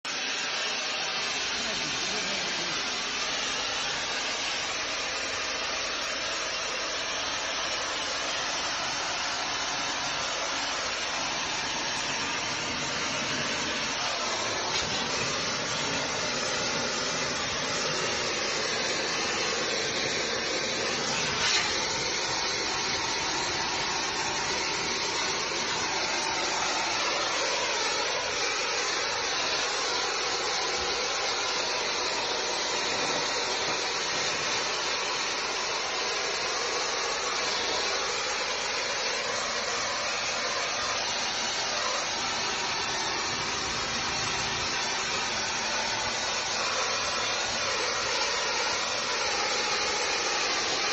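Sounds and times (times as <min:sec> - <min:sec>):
water jet hissing: 0:00.1 - 0:50.9.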